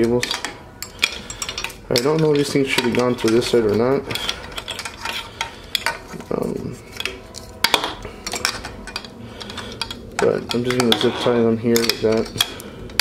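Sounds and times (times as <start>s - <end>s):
wiring connectors clicking on metal: 0.0s - 6.3s, 7.0s - 13.0s.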